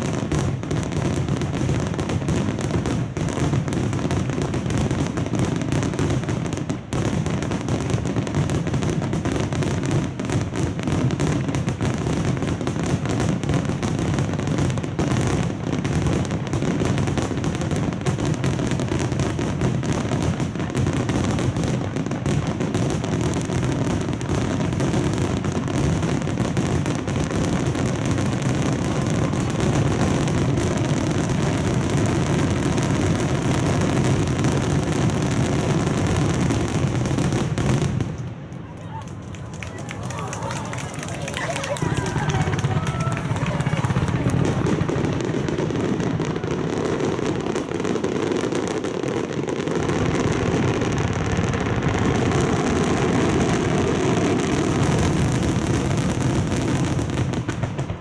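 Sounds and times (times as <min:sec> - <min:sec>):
fireworks booms and crackle: 0:00.0 - 0:58.0.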